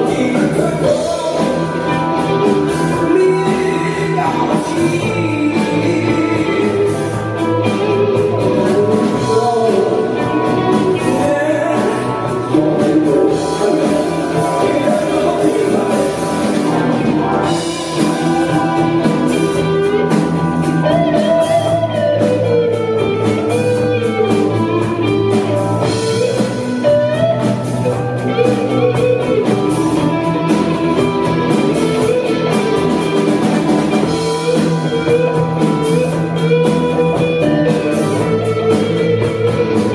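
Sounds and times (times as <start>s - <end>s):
drum kit: 0.0s - 39.9s
guitar: 0.0s - 39.9s
person singing: 0.0s - 39.9s.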